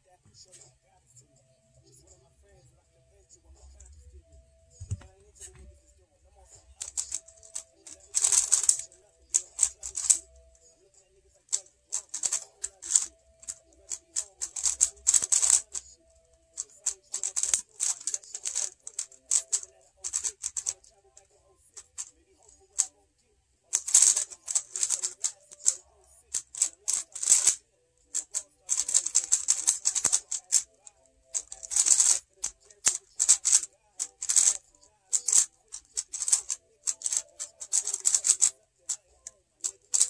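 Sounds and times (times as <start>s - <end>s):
puzzle cube clicking and rattling: 6.6s - 23.0s, 23.7s - 40.0s.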